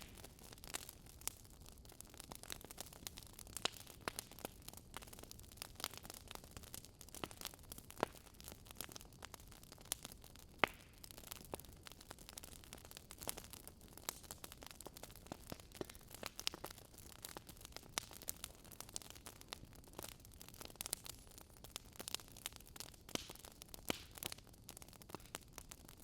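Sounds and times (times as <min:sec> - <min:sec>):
burning logs crackling: 0:00.0 - 0:26.0.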